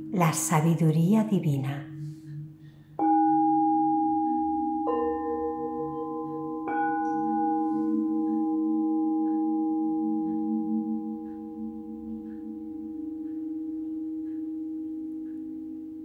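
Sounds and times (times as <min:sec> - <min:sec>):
singing bowls ringing: 0:01.8 - 0:16.0.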